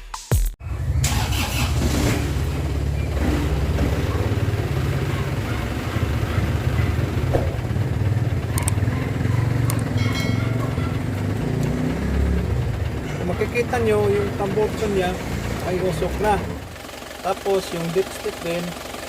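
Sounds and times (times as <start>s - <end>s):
diesel engine idling: 0.6s - 19.0s.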